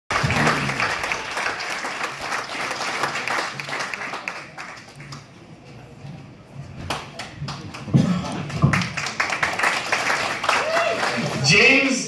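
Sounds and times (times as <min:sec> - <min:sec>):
audience applauding: 0:00.1 - 0:05.3, 0:06.9 - 0:12.0.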